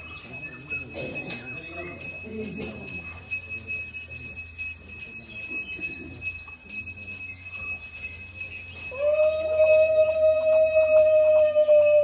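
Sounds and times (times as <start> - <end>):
hand bell ringing rapidly: 0.0 - 12.0.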